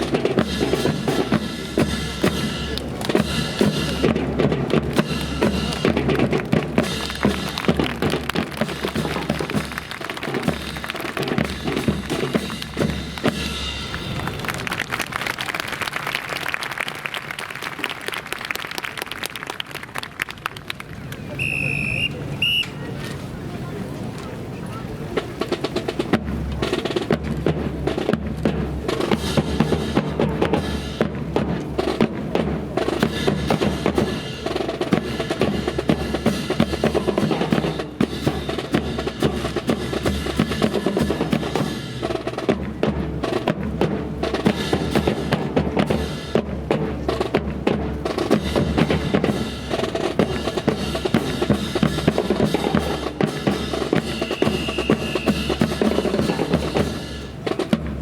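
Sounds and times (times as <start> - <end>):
drum-heavy music: 0.0 - 14.7, 25.6 - 58.0.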